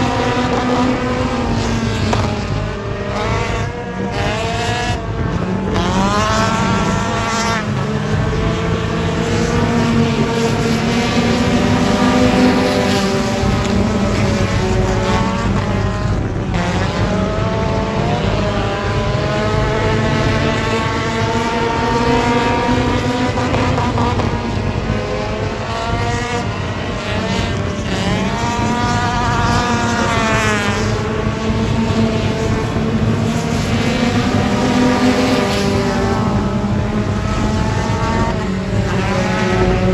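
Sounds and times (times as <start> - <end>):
race car engines accelerating: 0.0 - 39.9.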